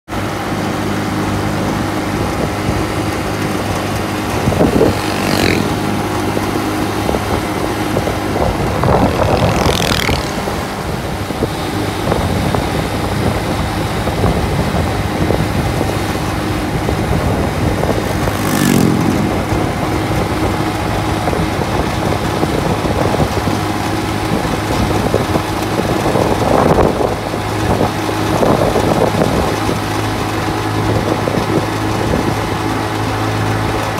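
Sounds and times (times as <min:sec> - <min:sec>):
rushing wind: 0:00.1 - 0:33.9
vehicle engine and road noise: 0:00.1 - 0:33.9.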